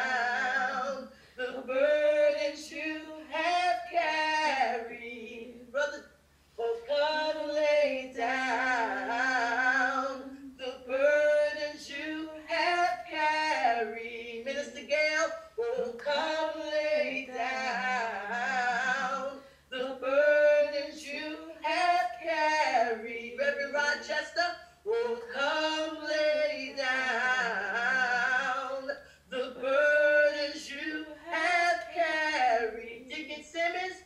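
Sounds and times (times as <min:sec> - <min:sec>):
woman singing a hymn: 0:00.0 - 0:34.0.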